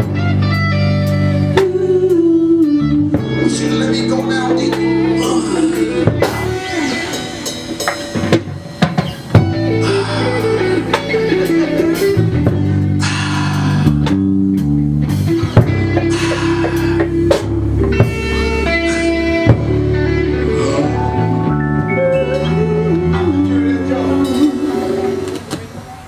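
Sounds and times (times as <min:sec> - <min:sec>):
bass guitar: 0:00.0 - 0:25.9
drum kit with cymbals: 0:00.0 - 0:26.0
electric guitar: 0:00.0 - 0:26.0.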